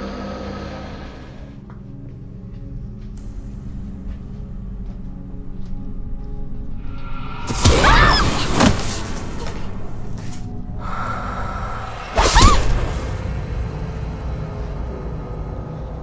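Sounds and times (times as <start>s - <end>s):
low steady drone: 0.0s - 16.0s.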